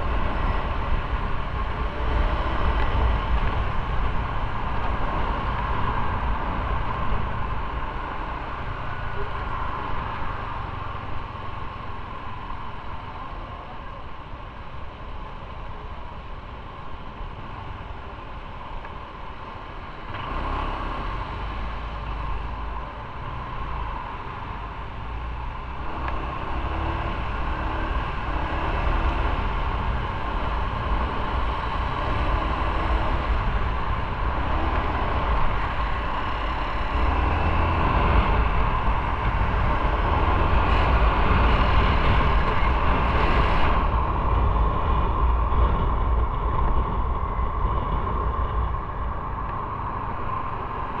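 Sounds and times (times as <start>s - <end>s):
wind noise: 0.0s - 51.0s.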